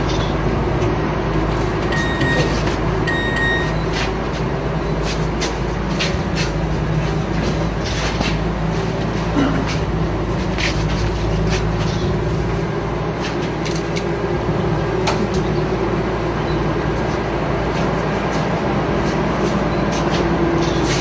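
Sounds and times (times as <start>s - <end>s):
low mechanical drone: 0.0s - 21.0s.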